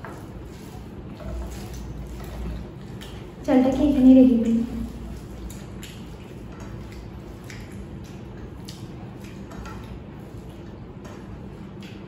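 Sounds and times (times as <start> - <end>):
wet squishing of fingers in food: 0.0 - 12.0.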